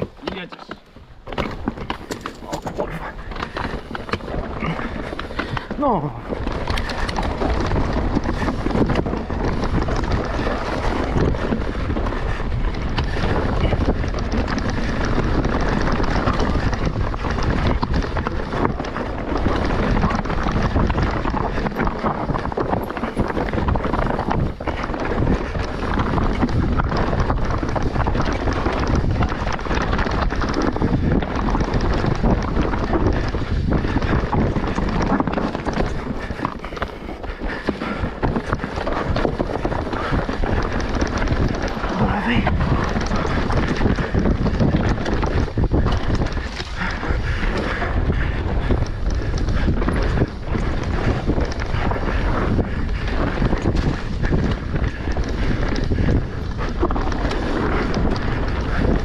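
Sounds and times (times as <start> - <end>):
bike knocking and rattling: 0.0 - 59.0
tyres on trail: 0.0 - 59.0
wind buffeting microphone: 0.0 - 59.0.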